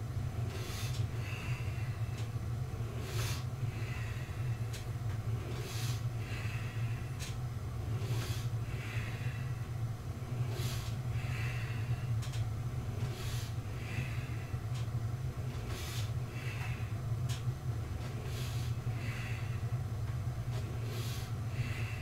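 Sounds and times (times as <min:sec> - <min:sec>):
steady low hum: 0:00.0 - 0:22.0
man breathing hard: 0:00.4 - 0:14.9, 0:15.5 - 0:17.4, 0:18.0 - 0:19.8, 0:20.6 - 0:22.0.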